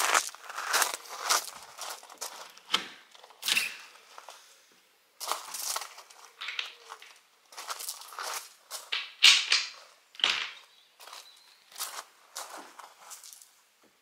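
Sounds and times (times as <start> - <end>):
crunching and rustling: 0.0 - 4.4, 5.2 - 13.5.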